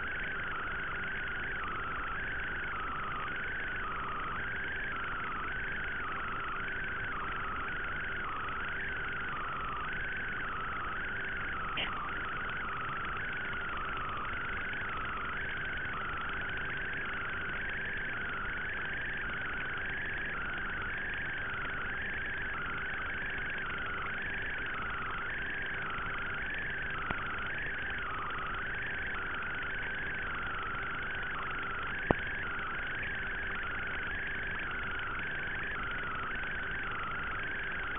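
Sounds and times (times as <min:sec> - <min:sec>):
electronic hum with wavering whine: 0:00.0 - 0:37.9.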